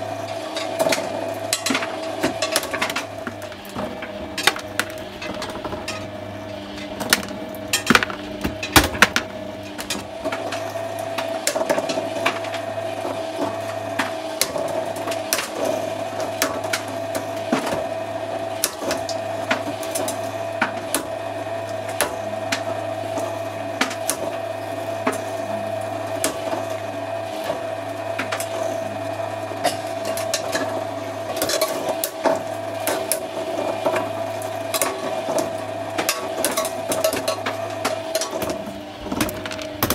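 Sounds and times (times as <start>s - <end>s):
shredder motor hum: 0.0s - 39.9s.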